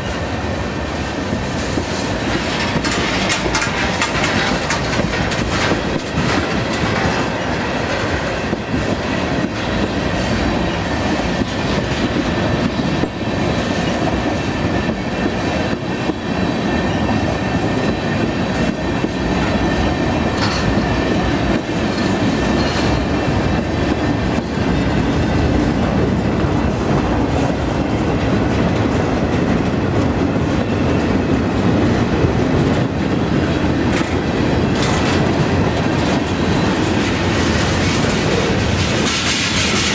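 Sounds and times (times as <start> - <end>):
freight train rolling past: 0.0 - 39.9
wheels clacking over rail joints: 1.6 - 39.9.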